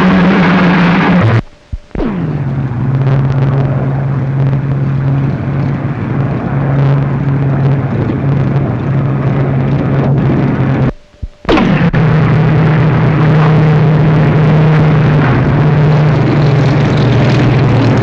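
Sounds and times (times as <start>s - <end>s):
piston aero engine droning: 0.0s - 18.0s.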